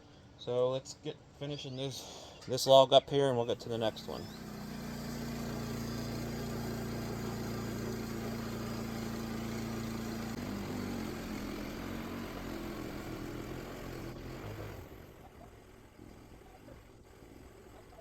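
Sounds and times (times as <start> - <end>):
sawmill engine running: 3.4 - 18.0.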